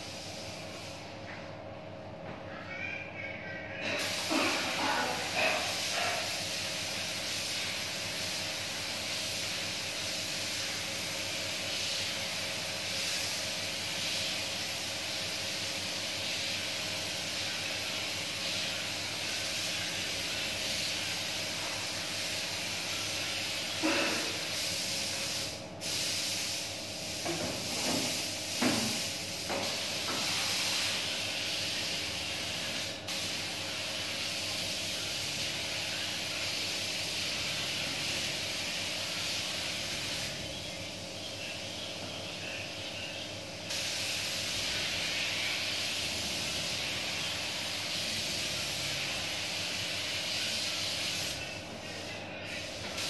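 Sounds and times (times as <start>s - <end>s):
paint spray gun hissing: 0.0s - 1.1s, 3.9s - 53.0s.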